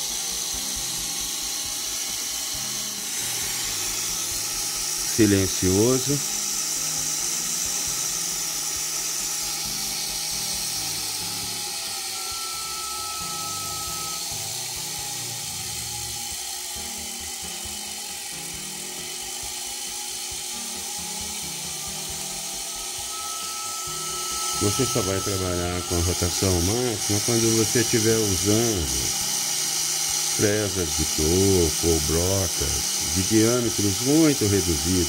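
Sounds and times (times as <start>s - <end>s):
lathe motor whine: 0.0s - 35.0s.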